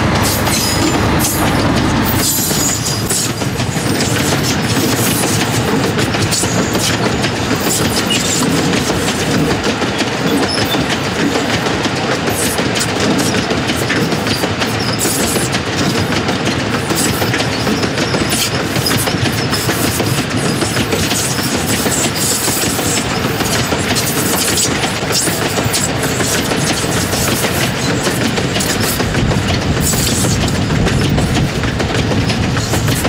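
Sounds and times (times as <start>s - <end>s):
train wheels clattering over rail joints: 0.0s - 33.0s.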